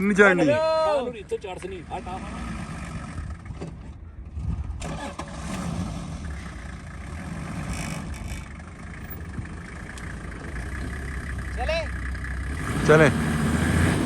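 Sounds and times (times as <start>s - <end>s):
car engine running at low revs: 1.2s - 14.0s.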